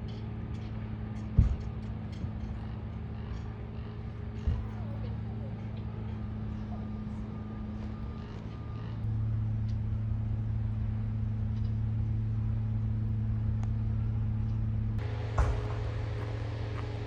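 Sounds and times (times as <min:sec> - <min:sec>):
heavy vehicle engine droning: 0:00.0 - 0:17.0.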